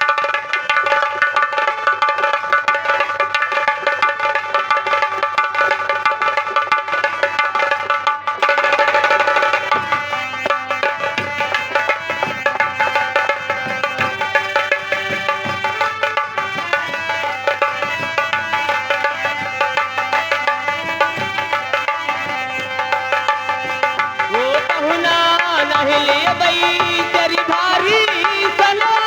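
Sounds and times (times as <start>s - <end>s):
quick steady drumming: 0.0s - 29.0s.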